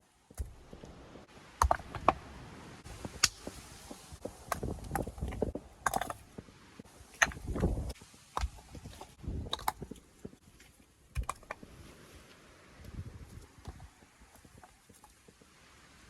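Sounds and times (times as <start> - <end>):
stones knocking and scraping: 0.0 - 15.6.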